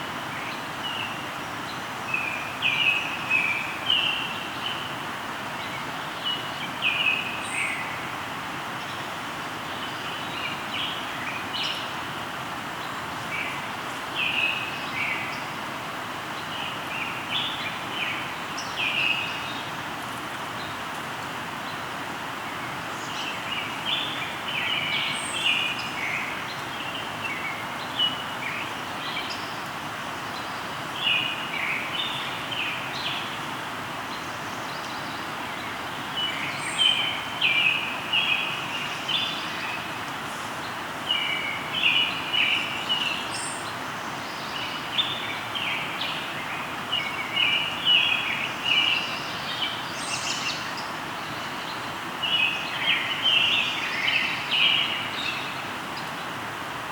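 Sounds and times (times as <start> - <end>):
river flowing: 0.0 - 56.9
songbirds chirping: 0.0 - 56.9.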